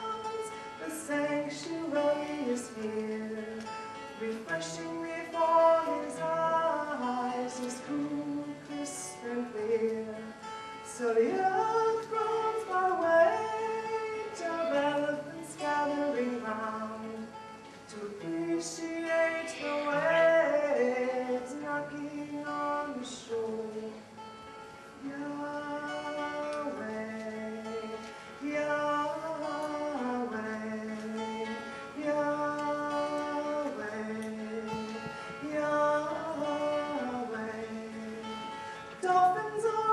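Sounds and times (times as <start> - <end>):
woman singing: 0.0 - 24.1, 25.0 - 39.9
acoustic guitar strumming: 0.0 - 39.9.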